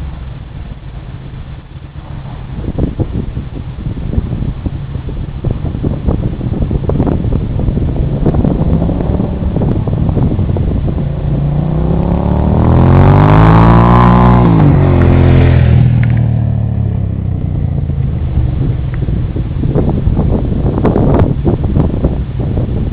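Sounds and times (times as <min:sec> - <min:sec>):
motorcycle engine accelerating: 0:00.0 - 0:22.9
rumbling wind noise: 0:00.0 - 0:22.9.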